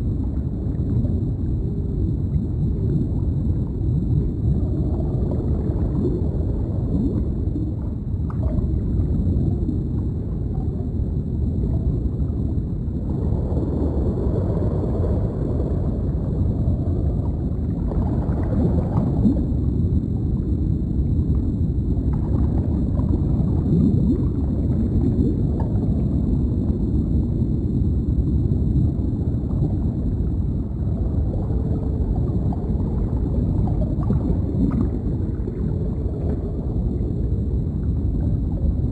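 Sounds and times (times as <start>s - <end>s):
bubbling gurgles: 0.0s - 38.9s
faint high hum: 0.0s - 38.9s
low underwater rumble: 0.0s - 38.9s.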